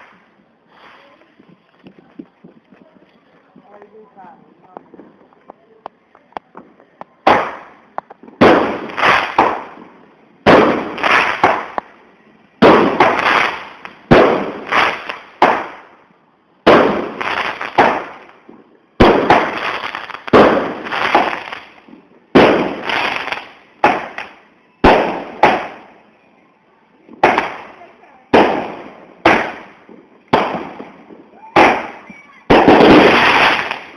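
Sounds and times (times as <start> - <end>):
fireworks bangs and crackle: 0.0 - 26.2, 27.0 - 33.9.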